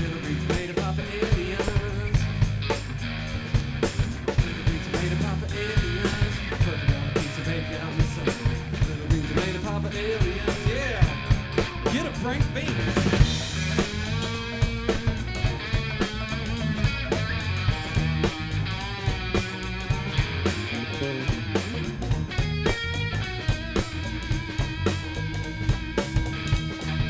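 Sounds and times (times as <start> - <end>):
drum kit beat: 0.0 - 27.0
rock band playing: 0.0 - 27.0.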